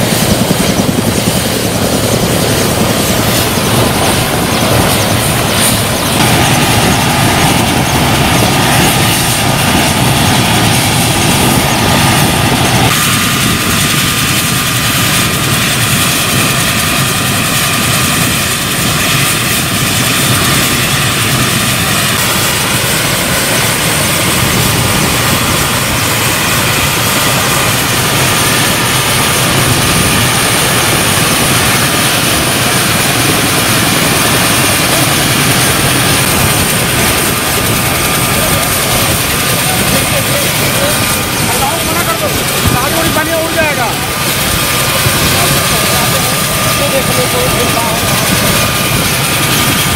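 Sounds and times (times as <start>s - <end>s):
helicopter rotor noise: 0.0s - 49.9s
helicopter turbine whine: 0.0s - 49.9s.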